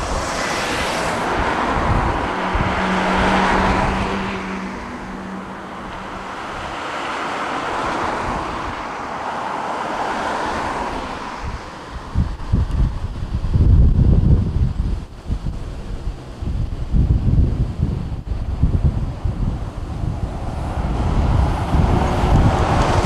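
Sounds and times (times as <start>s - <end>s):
jet airliner passing: 0.0s - 12.5s, 15.4s - 23.0s.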